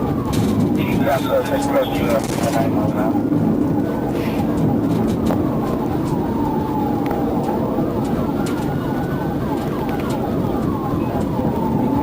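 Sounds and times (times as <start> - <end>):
engine and road noise: 0.0 - 12.0
police siren wailing and yelping: 0.0 - 12.0.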